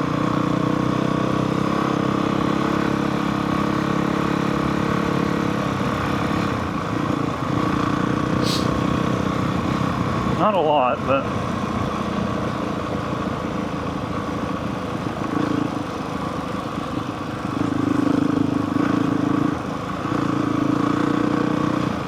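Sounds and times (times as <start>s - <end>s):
dirt bike engine running: 0.0s - 22.0s.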